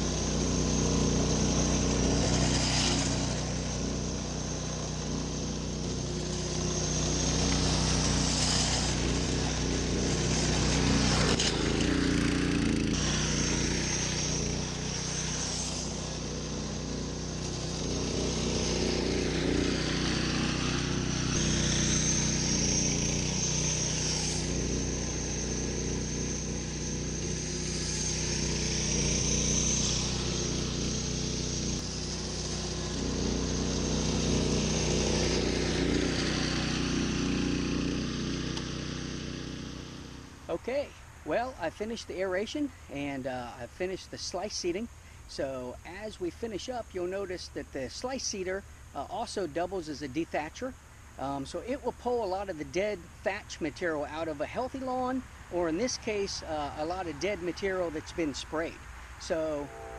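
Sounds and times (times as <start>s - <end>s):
small gasoline engine running: 0.0s - 41.6s, 49.5s - 59.9s.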